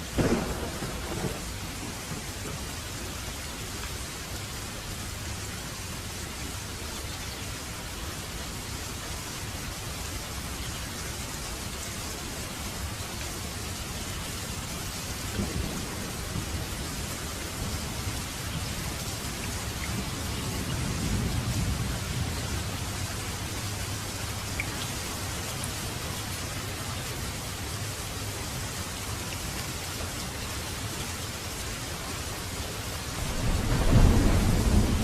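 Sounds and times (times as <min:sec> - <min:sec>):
steady rain hiss: 0:00.0 - 0:35.0.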